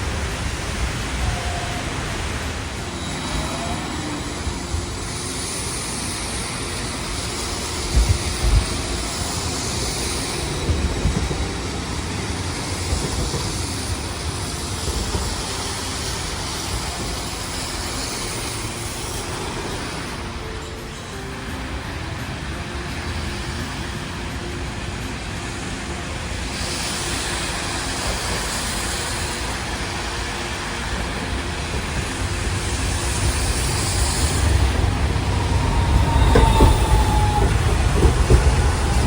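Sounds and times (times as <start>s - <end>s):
road traffic: 0.0s - 39.0s
streetcar running: 0.0s - 39.0s
tyres hissing on wet road: 0.0s - 39.0s.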